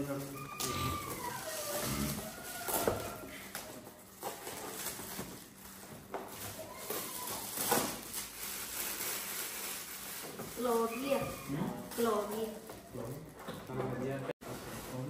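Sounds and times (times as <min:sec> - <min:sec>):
plastic wrapping crinkling: 0:00.2 - 0:13.3.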